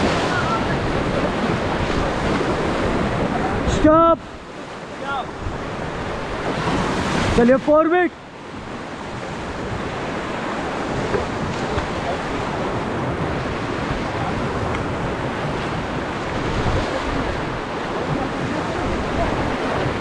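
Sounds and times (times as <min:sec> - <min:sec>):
wind on microphone: 0:00.0 - 0:07.4, 0:08.4 - 0:20.0
whitewater rapids rushing: 0:00.0 - 0:20.0.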